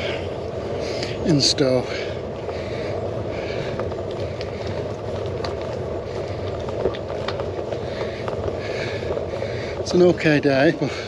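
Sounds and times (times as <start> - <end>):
bicycle rumble: 0.0 - 11.0
small clicks and rattles: 0.8 - 11.0.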